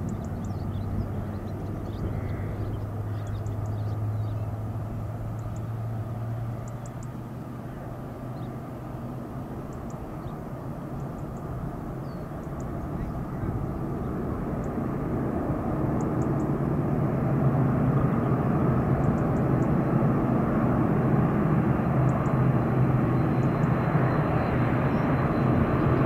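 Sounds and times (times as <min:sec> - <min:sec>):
distant piston aircraft engines droning: 0:00.0 - 0:26.0.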